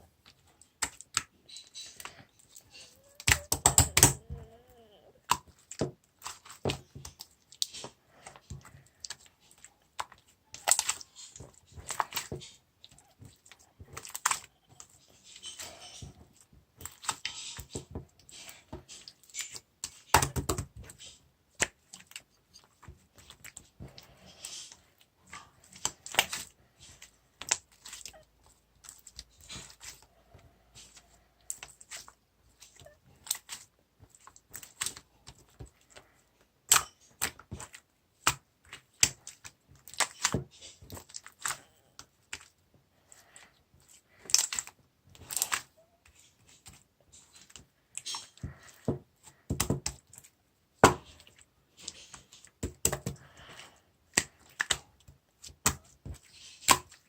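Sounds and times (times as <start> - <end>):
slime squished in hands: 5.2 - 57.0.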